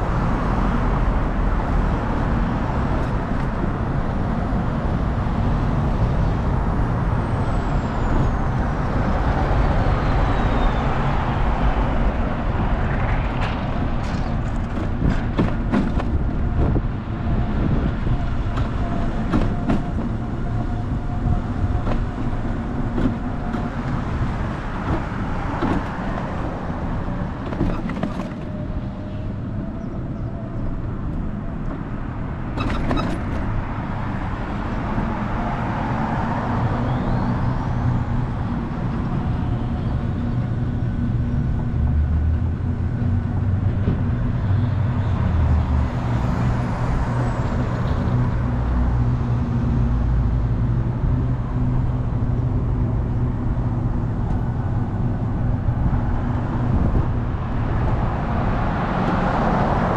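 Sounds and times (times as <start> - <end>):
tyre and road noise: 0.0 - 59.9.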